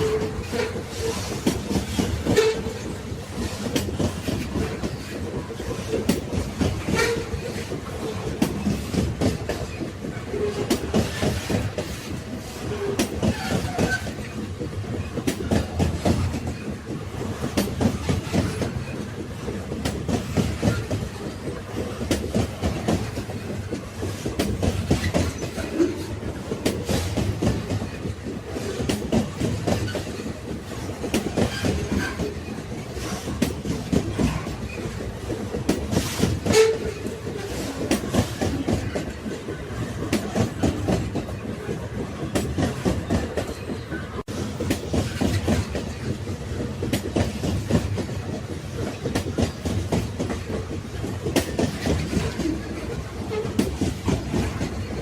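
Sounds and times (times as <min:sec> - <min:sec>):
railway wagons rumbling: 0:00.0 - 0:55.0
wheels clacking over rail joints: 0:00.0 - 0:55.0.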